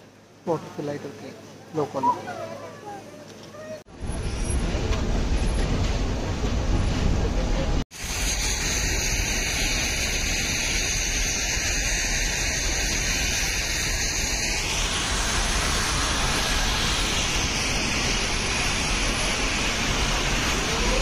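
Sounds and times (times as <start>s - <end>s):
train rushing noise: 3.9s - 21.0s.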